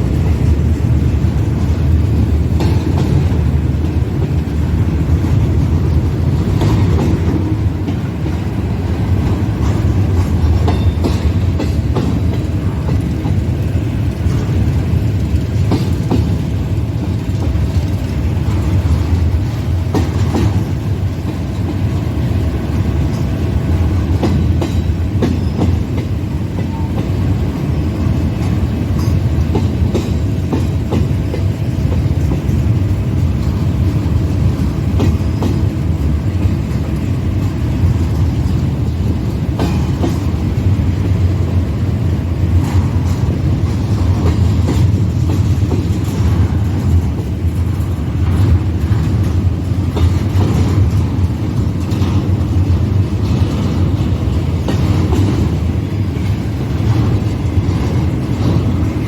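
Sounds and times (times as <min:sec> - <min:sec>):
freight train cars rumbling: 0:00.0 - 0:59.0
wheels clicking over rail joints: 0:00.0 - 0:59.0.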